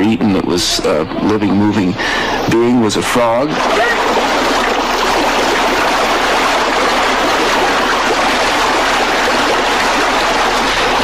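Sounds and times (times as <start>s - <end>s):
rocky stream running: 1.2s - 11.0s.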